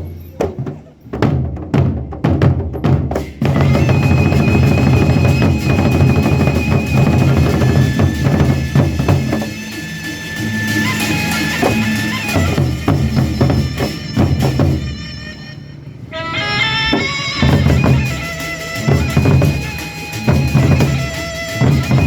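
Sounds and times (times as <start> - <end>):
percussion ensemble drumming: 0.0 - 15.4, 16.8 - 22.0
steady high tone: 3.5 - 22.0.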